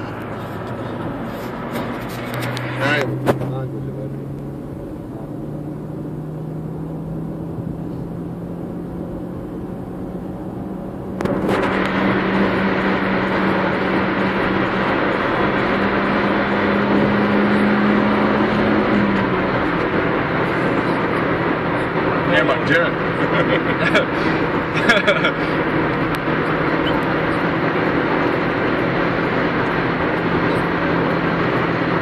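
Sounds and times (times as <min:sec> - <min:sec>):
car engine revving hard: 0:00.0 - 0:32.0.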